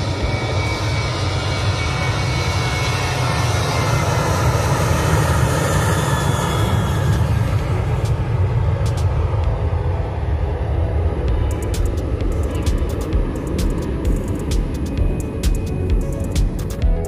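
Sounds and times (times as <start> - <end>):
jet engines roaring at takeoff: 0.0 - 17.0.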